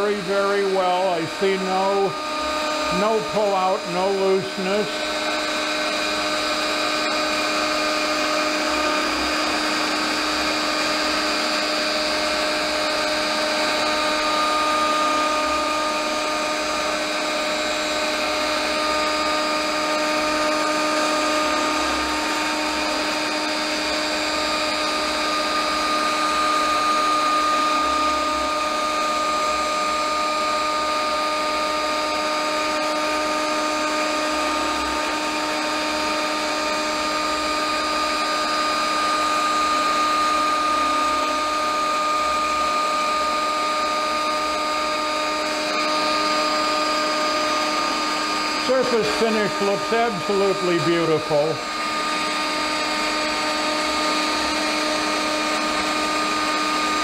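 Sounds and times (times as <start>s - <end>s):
router spindle whine: 0.0s - 57.0s.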